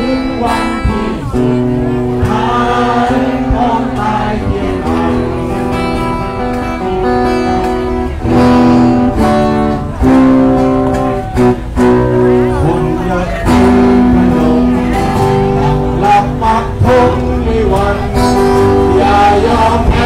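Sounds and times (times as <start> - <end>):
crowd singing: 0.0 - 20.0
strummed acoustic guitar: 0.0 - 20.0.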